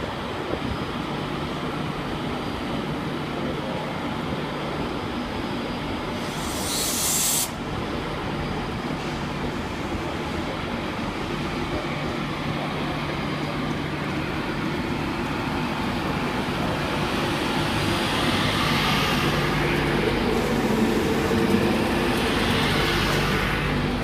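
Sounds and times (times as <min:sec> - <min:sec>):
electric locomotive hum: 0:00.0 - 0:24.0
train running noise: 0:00.0 - 0:24.0.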